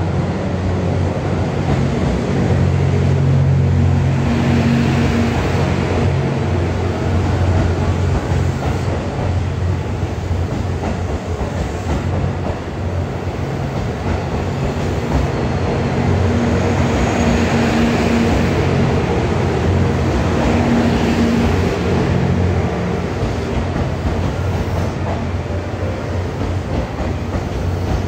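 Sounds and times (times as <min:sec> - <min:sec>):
train cars rumbling past: 0:00.0 - 0:28.0
train mechanical drone: 0:00.0 - 0:28.0.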